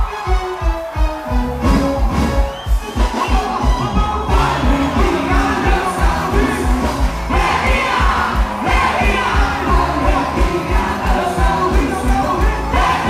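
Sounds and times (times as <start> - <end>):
folk dance song with singing: 0.0 - 13.0.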